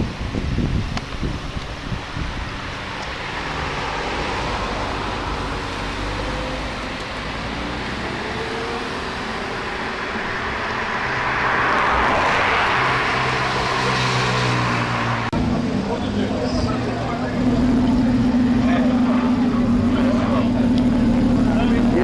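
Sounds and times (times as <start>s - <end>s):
car engines running: 0.0s - 22.0s
road noise: 0.0s - 22.0s.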